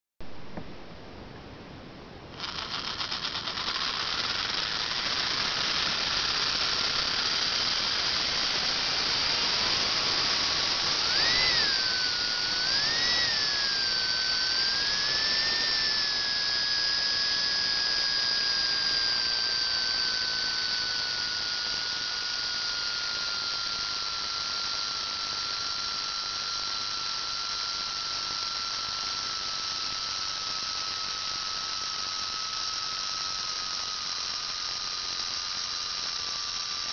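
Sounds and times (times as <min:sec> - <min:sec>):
electric motor high whine: 0:02.3 - 0:36.9.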